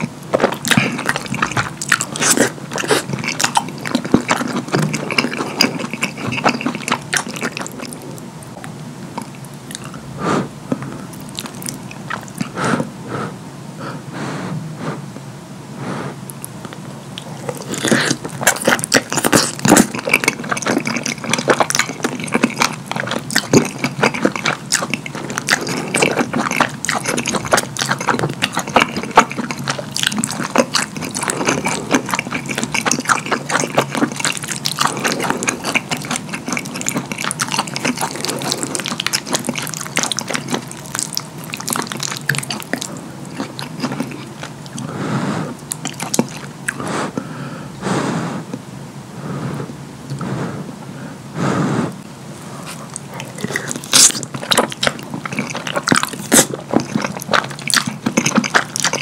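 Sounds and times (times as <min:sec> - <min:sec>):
wet chewing and lip smacking: 0:00.0 - 0:10.0, 0:10.7 - 0:12.8, 0:16.3 - 0:47.3, 0:52.6 - 0:59.0.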